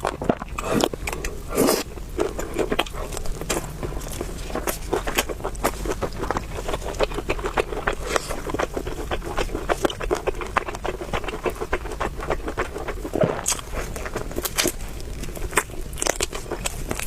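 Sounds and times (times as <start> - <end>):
person chewing noodles: 0.0 - 17.0.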